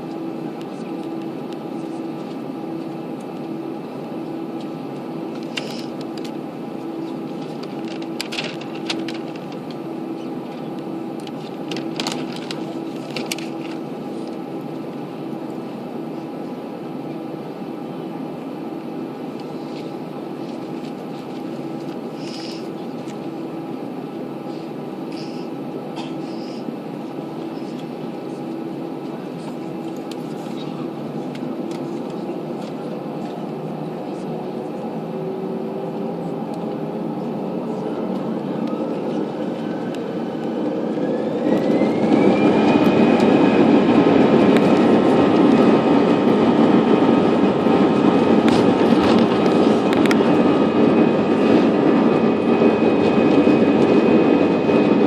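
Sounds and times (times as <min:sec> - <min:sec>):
airliner cabin hum: 0:00.0 - 0:55.0.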